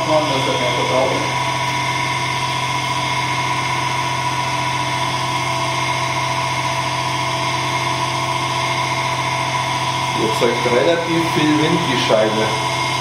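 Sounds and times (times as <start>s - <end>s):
electric motor humming: 0.0s - 13.0s
whirr of spinning disc: 0.0s - 13.0s.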